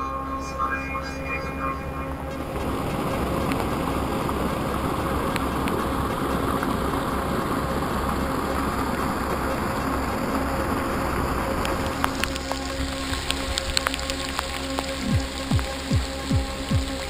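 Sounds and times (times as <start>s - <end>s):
water gushing and splashing on concrete: 2.6s - 17.0s.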